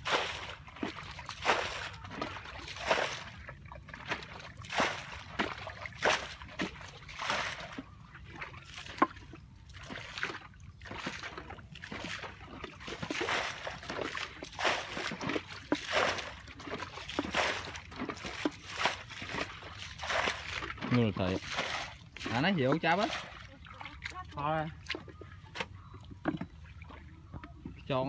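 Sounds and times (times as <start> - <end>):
pond water splashing: 0.0 - 28.0.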